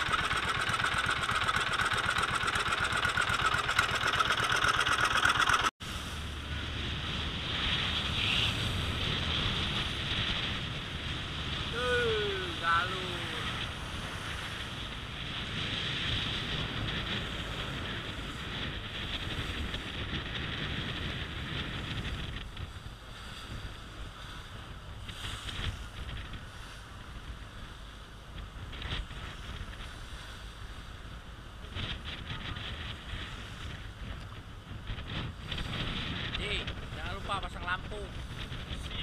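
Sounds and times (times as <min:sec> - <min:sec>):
low boat engine rumble: 0:00.0 - 0:39.0
water rushing past boat: 0:00.0 - 0:39.0
wind buffeting microphone: 0:00.0 - 0:39.0.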